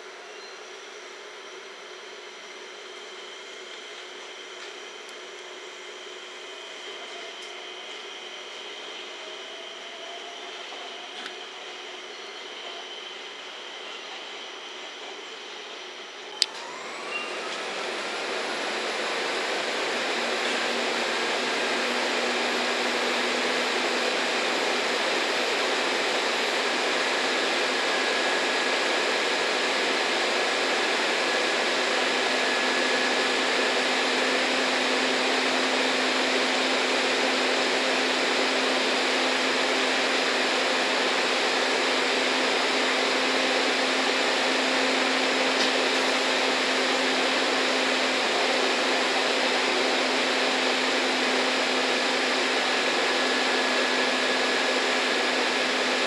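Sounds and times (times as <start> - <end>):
locomotive cooling blowers humming: 0.0 - 56.0.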